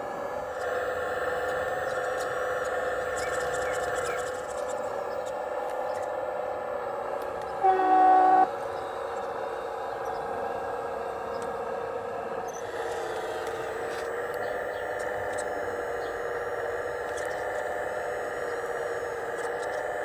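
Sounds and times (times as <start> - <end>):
model excavator whine: 0.0 - 20.0.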